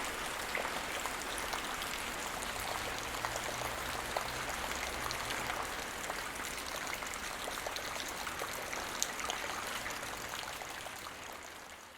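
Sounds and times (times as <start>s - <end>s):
light rain falling: 0.0s - 11.9s.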